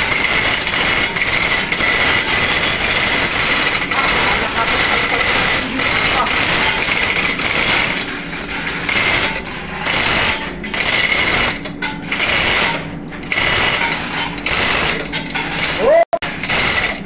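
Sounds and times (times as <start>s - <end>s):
chain hoist clattering: 0.0s - 17.0s
engine room machinery drone: 0.0s - 17.0s.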